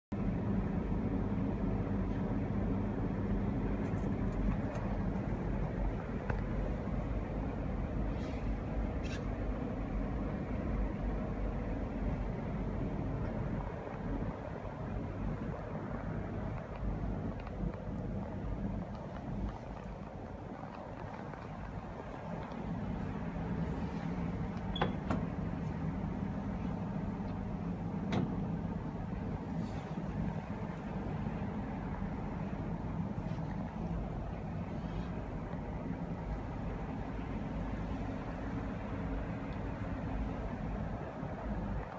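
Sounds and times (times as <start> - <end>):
low rumble with faint hum: 0.1 - 41.9.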